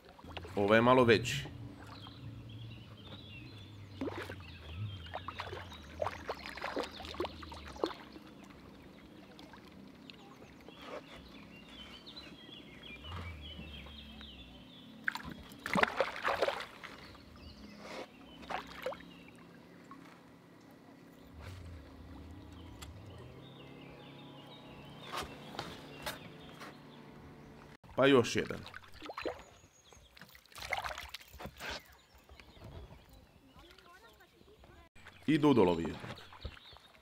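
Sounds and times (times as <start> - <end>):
water splashing at a boat: 0.0 - 37.0
faint birdsong: 0.1 - 37.0.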